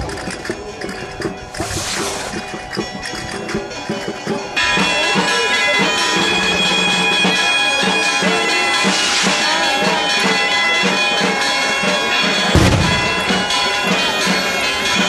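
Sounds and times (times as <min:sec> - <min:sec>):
bagpipe tune over drone: 0:00.0 - 0:15.0.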